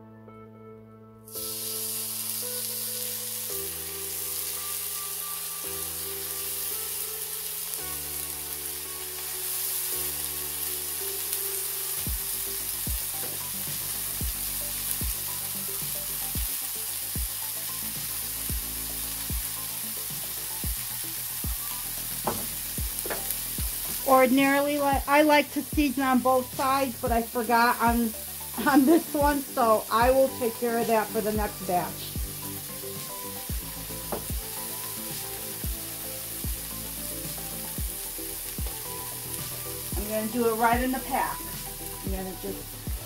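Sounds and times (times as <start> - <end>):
background music: 0.0 - 43.0
patties sizzling in skillet: 1.3 - 43.0.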